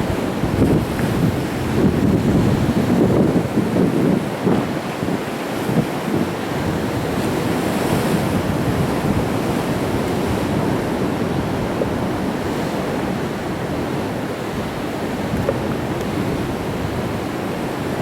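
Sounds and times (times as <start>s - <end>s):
waves breaking against rocks: 0.0s - 18.0s.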